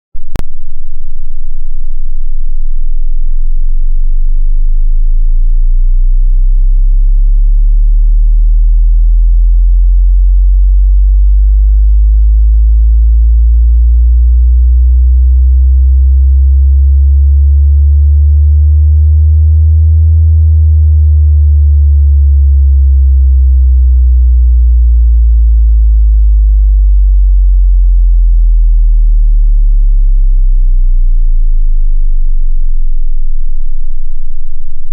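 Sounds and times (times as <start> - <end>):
deep bass test tone: 0.2 - 34.9.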